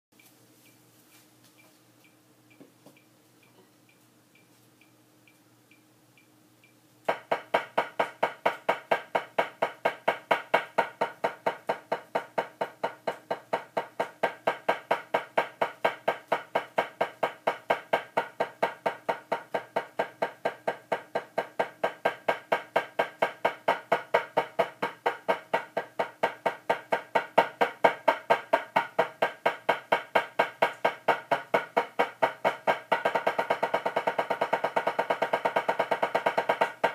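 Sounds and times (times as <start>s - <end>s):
faint metronome ticking: 0.2s - 36.9s
drumsticks striking practice pad: 7.1s - 36.9s.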